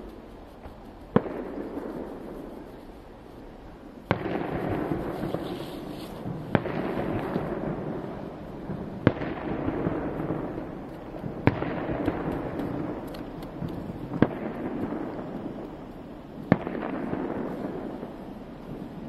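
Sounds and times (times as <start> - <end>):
faint firework crackling: 0.0 - 19.0
firework bangs with rolling echo: 1.1 - 2.8, 3.9 - 19.0.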